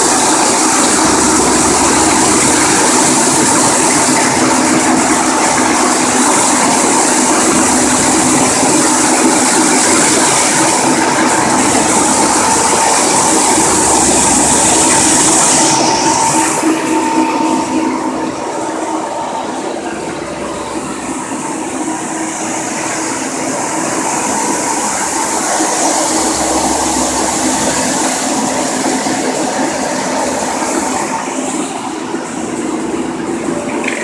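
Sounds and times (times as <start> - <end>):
coolant splashing: 0.0 - 34.0
machine hum: 0.0 - 34.0.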